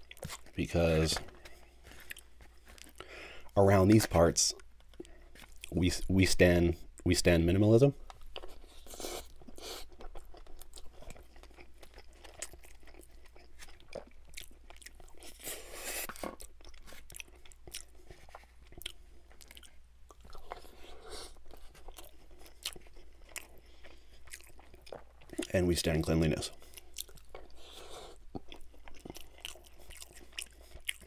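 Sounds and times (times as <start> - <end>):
chewing food: 0.0 - 6.1, 8.0 - 31.0.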